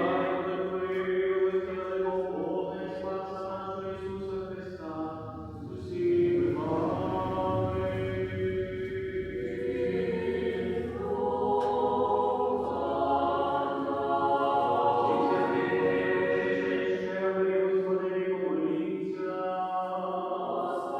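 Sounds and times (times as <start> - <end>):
choir singing chant: 0.0 - 20.9.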